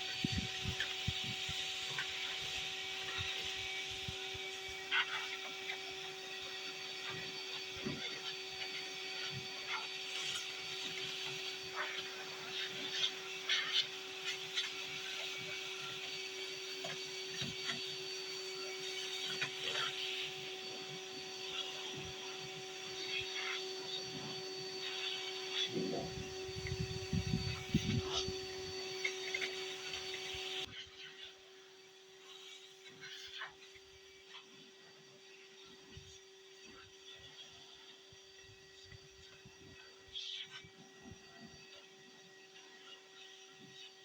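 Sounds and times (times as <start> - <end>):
vacuum cleaner motor whining: 0.0 - 44.0.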